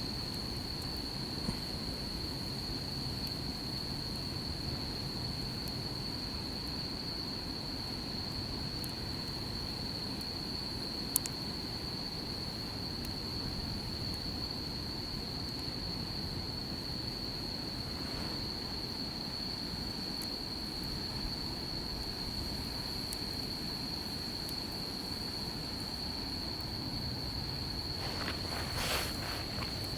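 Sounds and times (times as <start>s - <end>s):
campfire crackling: 0.0s - 6.9s, 7.8s - 29.9s
crickets trilling: 0.0s - 29.9s.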